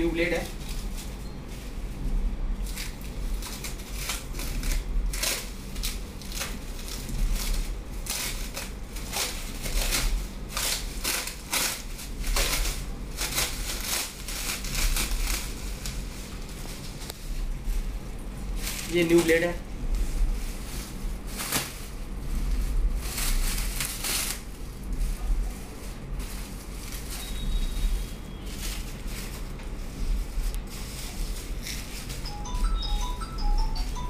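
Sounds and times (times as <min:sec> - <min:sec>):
wrapping crinkling and rustling: 0:00.0 - 0:34.0.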